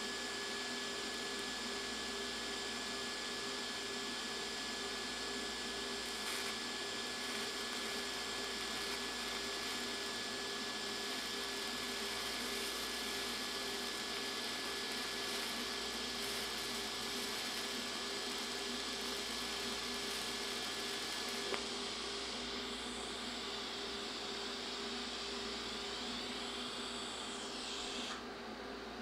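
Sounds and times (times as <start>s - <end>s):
welder hum: 0.0s - 28.9s
welding arc hissing and whining: 0.0s - 28.9s.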